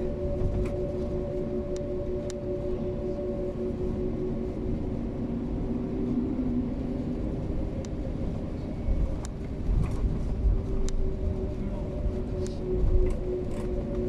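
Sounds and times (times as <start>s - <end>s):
aircraft engine hum: 0.0s - 14.0s.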